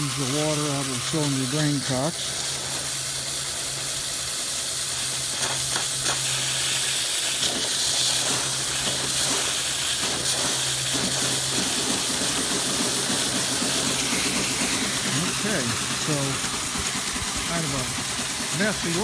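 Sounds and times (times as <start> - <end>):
steam hissing and water spraying: 0.0 - 19.0.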